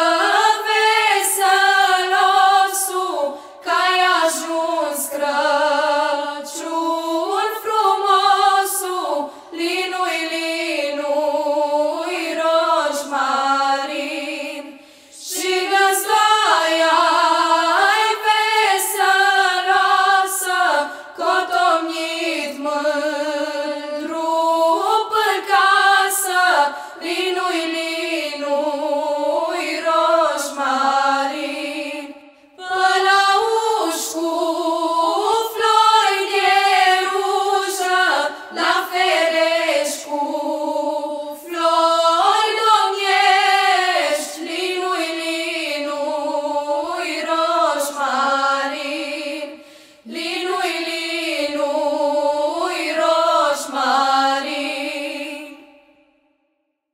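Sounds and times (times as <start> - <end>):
female choir singing a cappella: 0.0 - 56.4.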